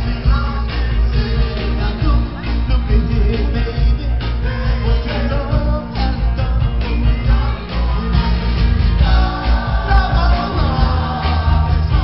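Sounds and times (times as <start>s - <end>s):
live band playing: 0.0s - 12.0s
male singer: 0.0s - 12.0s.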